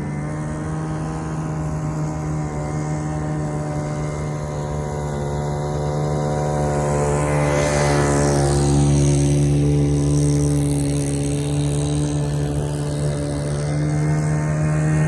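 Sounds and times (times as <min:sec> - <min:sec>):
small boat engine droning: 0:00.0 - 0:15.0.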